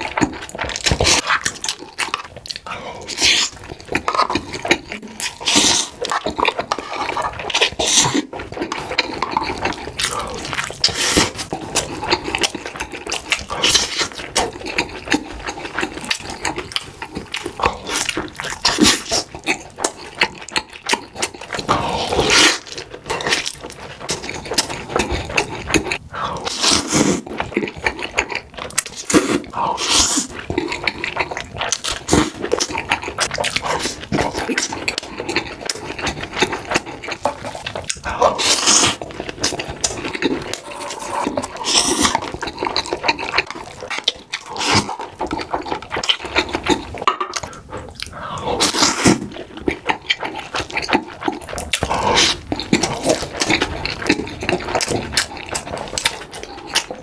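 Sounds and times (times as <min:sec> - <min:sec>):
close eating and chewing: 0:00.0 - 0:57.0.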